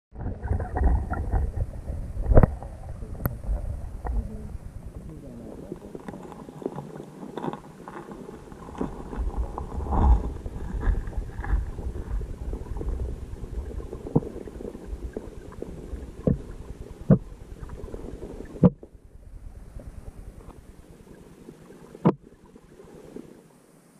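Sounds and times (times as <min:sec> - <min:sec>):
underwater knocking and thumps: 0:00.1 - 0:21.1, 0:21.7 - 0:22.6
muffled underwater rumble: 0:00.1 - 0:23.9.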